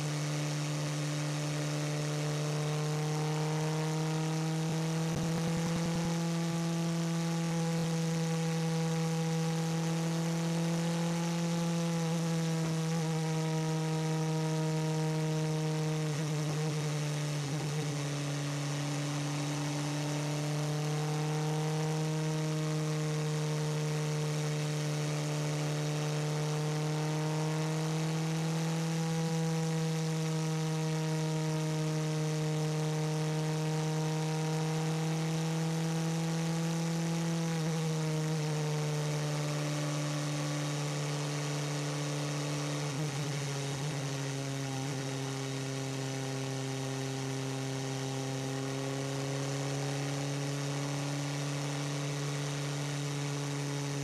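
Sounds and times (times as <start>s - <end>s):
racing car engine from cockpit: 0.0s - 54.0s.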